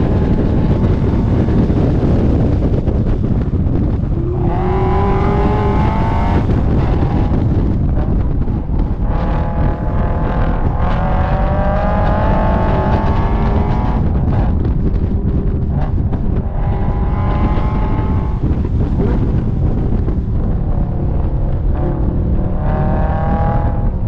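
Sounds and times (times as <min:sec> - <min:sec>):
car engine revving hard: 0:00.0 - 0:24.0
wind rushing over microphone: 0:00.0 - 0:24.0.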